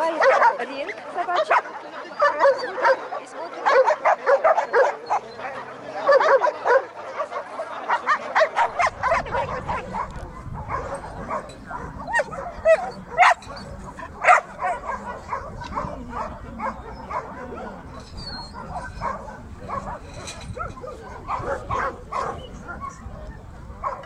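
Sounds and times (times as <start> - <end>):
dogs barking and yelping: 0.1 - 24.0.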